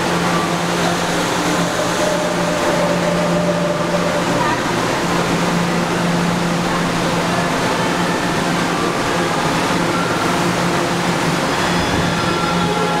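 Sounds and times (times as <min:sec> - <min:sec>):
train air-conditioning hum: 0:00.0 - 0:13.0.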